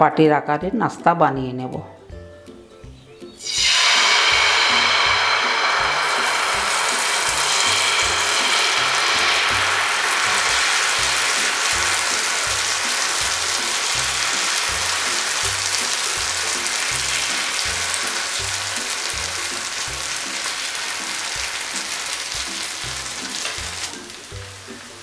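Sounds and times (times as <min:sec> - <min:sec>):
batter sizzling in hot oil: 0:03.4 - 0:25.0.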